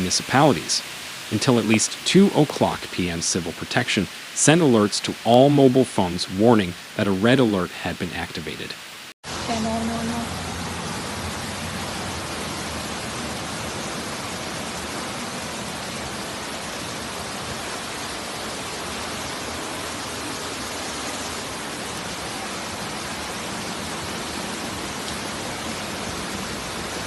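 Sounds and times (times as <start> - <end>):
heavy downpour: 0.0 - 27.0
rushing water: 0.0 - 27.0.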